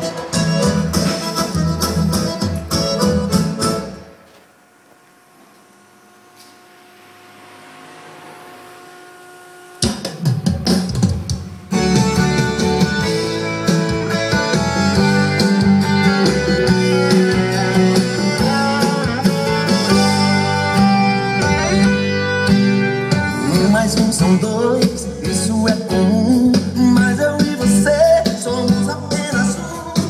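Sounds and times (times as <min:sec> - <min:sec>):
pop music over car speakers: 0:00.0 - 0:04.1, 0:09.8 - 0:30.0.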